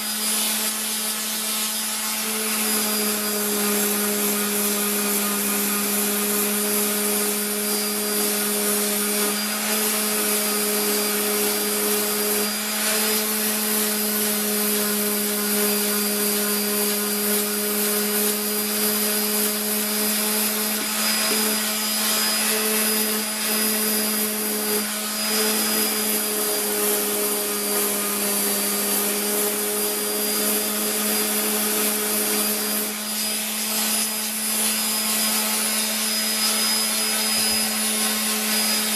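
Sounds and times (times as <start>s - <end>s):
high-speed electric motor humming: 0.0s - 38.9s.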